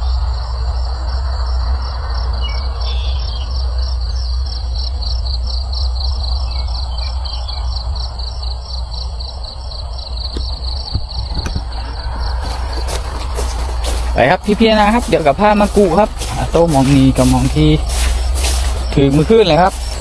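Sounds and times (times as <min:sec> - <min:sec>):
insects chirping in pulsed trill: 0:00.0 - 0:20.0
low rumble: 0:00.0 - 0:20.0.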